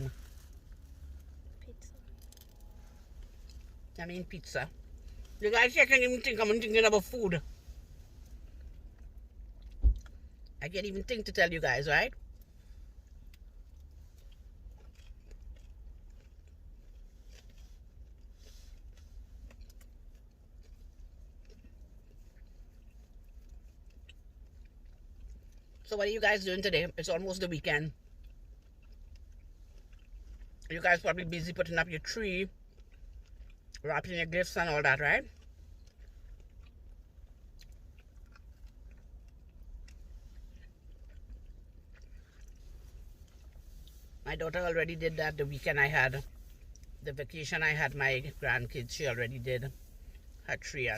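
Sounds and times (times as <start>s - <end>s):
person chewing pizza: 0.0s - 11.2s, 12.0s - 50.9s.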